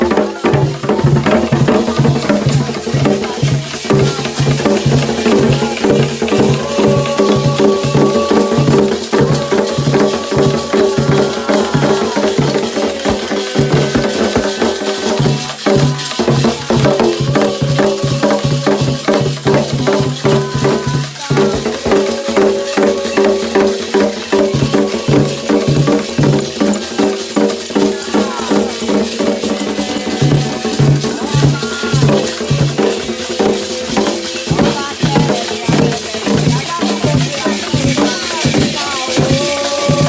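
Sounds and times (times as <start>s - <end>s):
hand drums beating: 0.0s - 40.0s.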